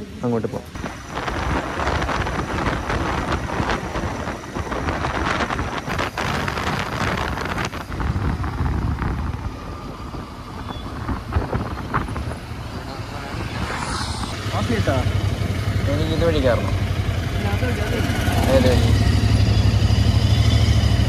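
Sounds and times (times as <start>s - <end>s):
motorcycle engine and road noise: 0.0s - 21.0s
wind buffeting microphone: 0.7s - 19.2s.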